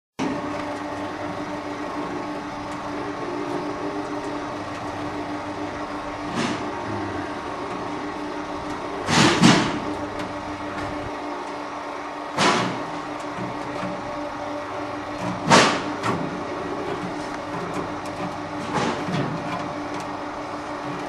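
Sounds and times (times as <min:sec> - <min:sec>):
electric hoist motor humming: 0:00.2 - 0:21.0.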